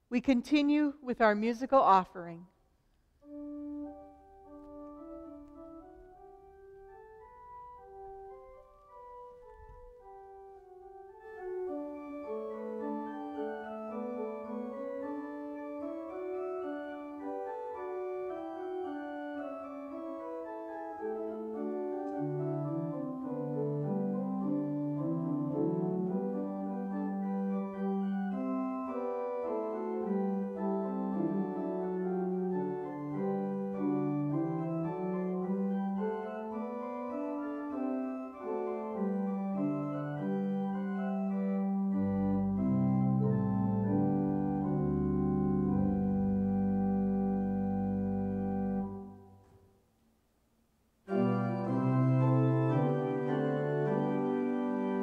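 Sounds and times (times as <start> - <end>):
organ bass line: 3.2 - 49.2, 51.1 - 55.0
organ playing sustained chords: 3.2 - 49.5, 51.1 - 55.0.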